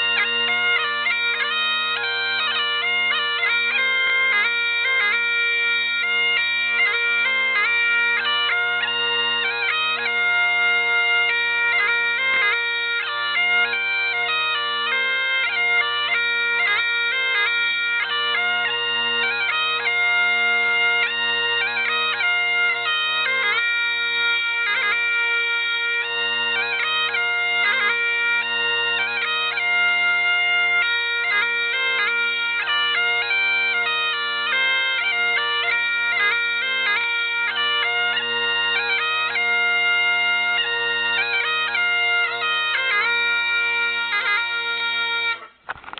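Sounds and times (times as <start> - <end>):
bagpipes playing: 0.0 - 45.9.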